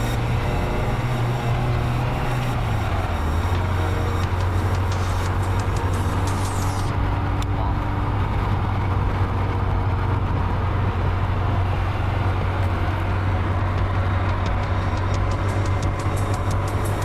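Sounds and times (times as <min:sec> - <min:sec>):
car engine drone: 0:00.0 - 0:17.0
road rumble: 0:00.0 - 0:17.0.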